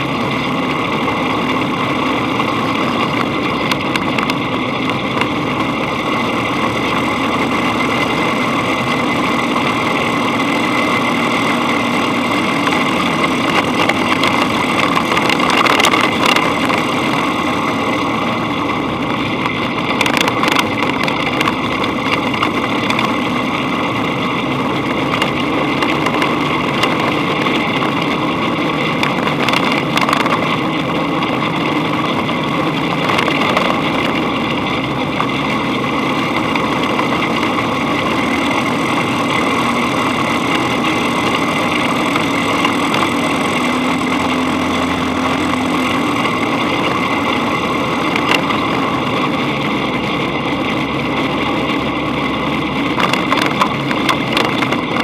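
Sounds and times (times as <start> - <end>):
dune buggy engine running: 0.0 - 55.0.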